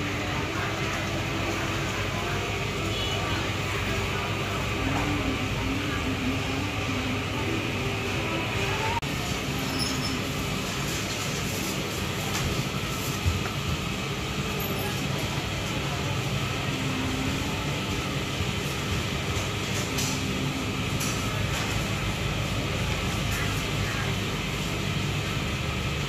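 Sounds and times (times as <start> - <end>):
workshop machinery rumbling: 0.0 - 26.0.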